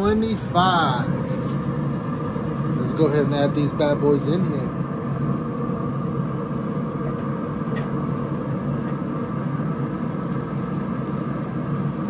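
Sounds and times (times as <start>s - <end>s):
grill fan humming: 0.0s - 12.0s.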